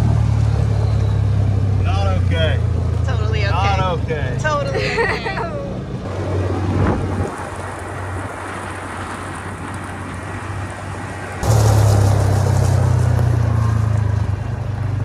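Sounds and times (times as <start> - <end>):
road noise: 0.0 - 15.0
vehicle engine droning: 0.0 - 15.0.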